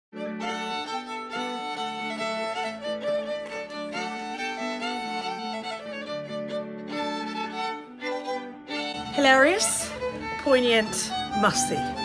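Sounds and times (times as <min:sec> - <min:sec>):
fiddle playing a melody: 0:00.1 - 0:12.0.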